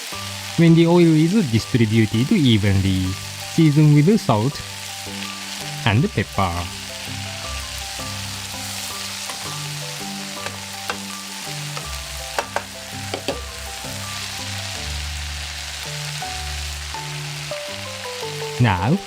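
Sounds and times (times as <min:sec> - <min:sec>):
soft background music: 0:00.0 - 0:19.0
vegetables sizzling in a pan: 0:00.0 - 0:19.0.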